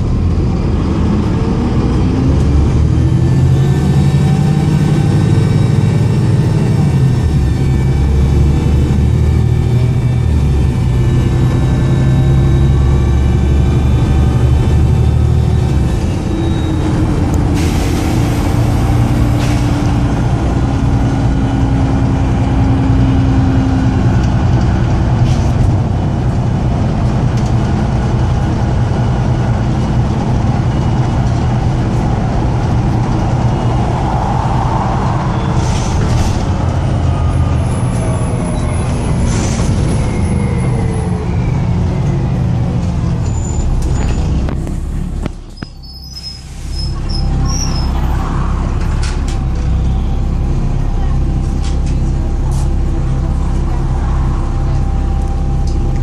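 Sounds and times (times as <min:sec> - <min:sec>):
bus diesel engine over-revving: 0:00.0 - 0:56.0.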